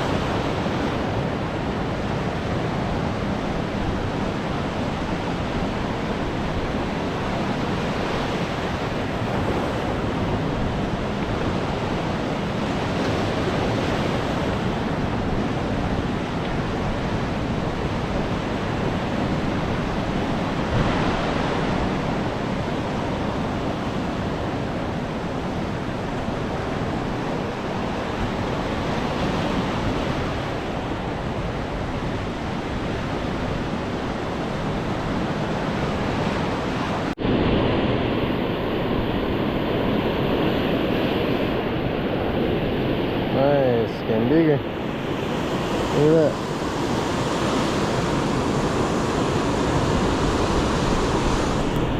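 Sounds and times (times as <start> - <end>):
ocean surf washing ashore: 0.0 - 51.9.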